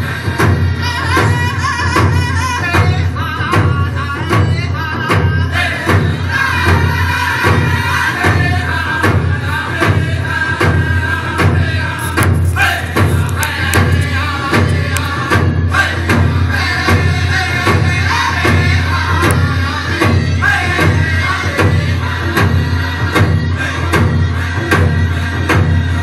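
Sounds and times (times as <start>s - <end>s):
music with percussive beat: 0.0s - 26.0s.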